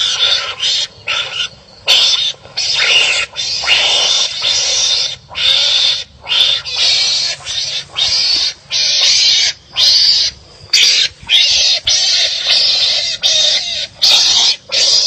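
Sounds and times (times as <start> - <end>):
wild animals harsh raspy cries: 0.0 - 15.0.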